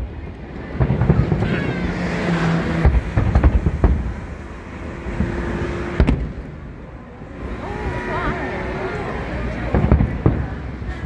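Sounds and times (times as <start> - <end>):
crowd and outdoor noise: 0.0 - 11.0
fireworks banging: 0.0 - 11.0.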